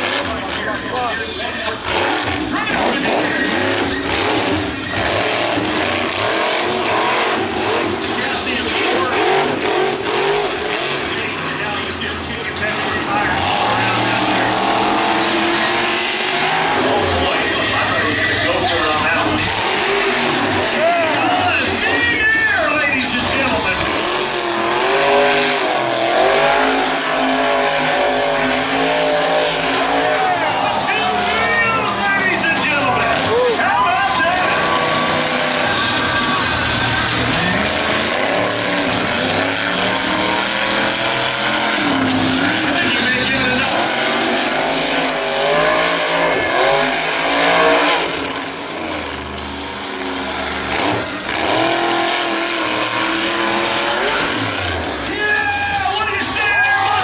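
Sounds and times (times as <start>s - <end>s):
monster truck engine revving: 0.0s - 57.0s.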